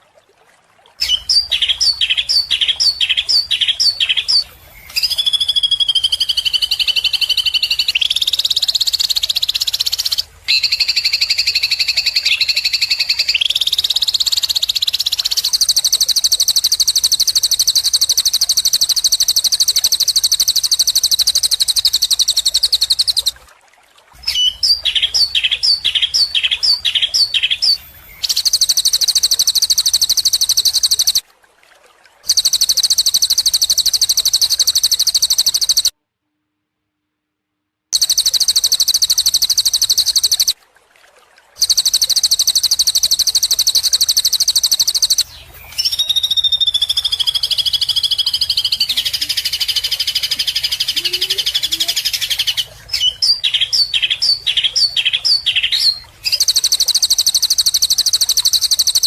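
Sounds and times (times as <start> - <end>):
bird high-pitched trill: 1.0 - 23.4, 24.3 - 31.2, 32.3 - 35.9, 38.0 - 40.6, 41.6 - 59.0.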